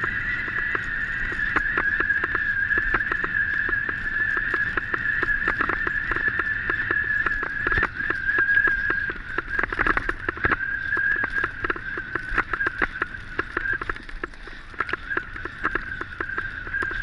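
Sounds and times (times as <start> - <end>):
bike rattling over dirt track: 0.0 - 17.0
steady high-pitched whine: 0.0 - 17.0.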